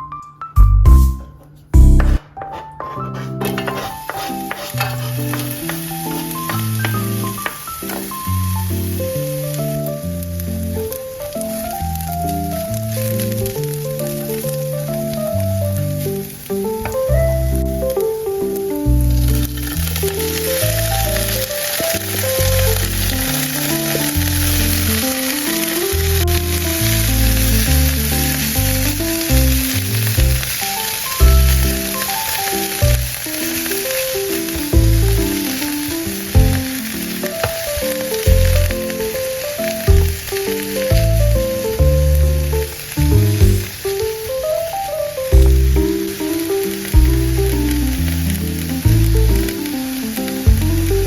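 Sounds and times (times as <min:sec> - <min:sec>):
background music: 0:00.0 - 0:43.8
food sizzling in a frying pan: 0:03.1 - 0:51.0.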